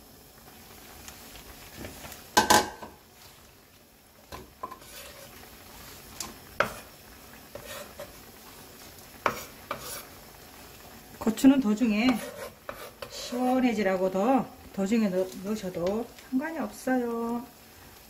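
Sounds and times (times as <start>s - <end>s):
stew bubbling faintly: 0.0s - 18.0s.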